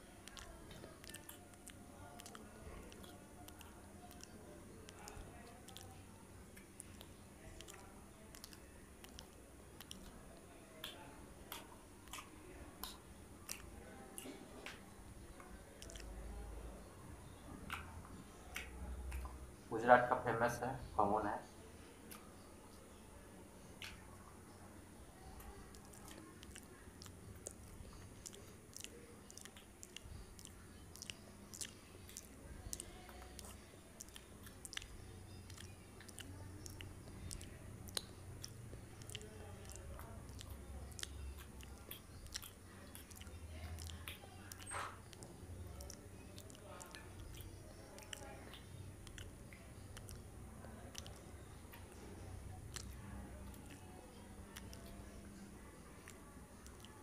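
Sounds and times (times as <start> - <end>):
wet mouth clicks and smacks: 0.0 - 16.4, 17.2 - 19.6, 22.0 - 22.5, 23.6 - 24.3, 25.2 - 55.2, 55.8 - 57.0
chewing soft bread: 0.0 - 20.5, 21.5 - 57.0.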